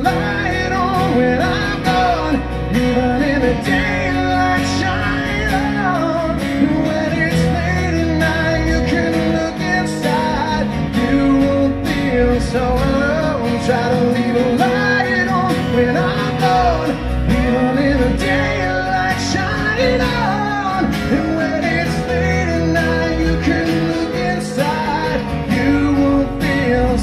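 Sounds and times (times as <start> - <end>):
backing vocal: 0.0 - 27.0
electric bass: 0.0 - 27.0
male lead vocal: 0.0 - 27.0
strummed acoustic guitar: 0.0 - 27.0.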